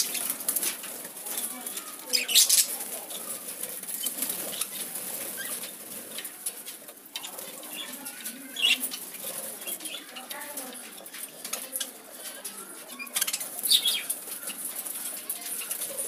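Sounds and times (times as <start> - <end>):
budgies flapping wings: 0.0 - 16.0.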